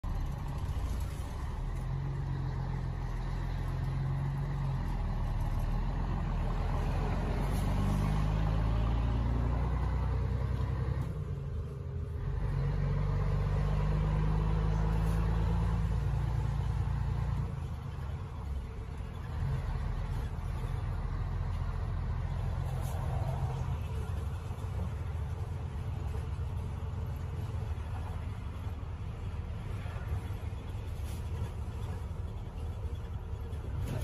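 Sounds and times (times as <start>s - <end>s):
truck diesel engine accelerating: 0.0s - 34.0s.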